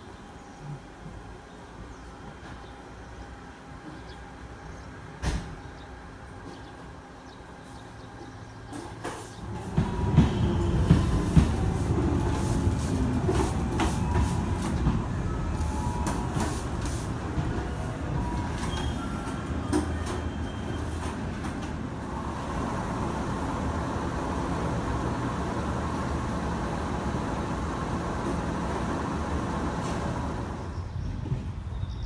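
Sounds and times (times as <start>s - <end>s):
electric train rumbling: 0.0s - 32.0s.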